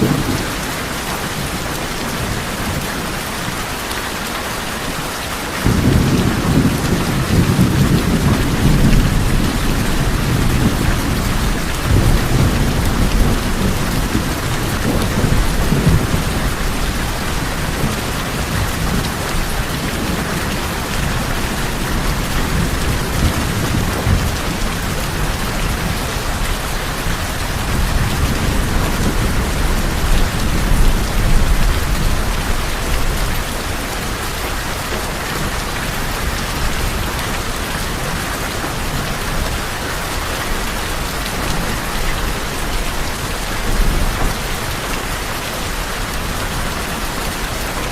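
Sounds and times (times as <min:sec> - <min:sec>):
low thunder rumbling: 0:00.0 - 0:03.1, 0:05.6 - 0:47.9
rain on a tin roof: 0:00.0 - 0:47.9.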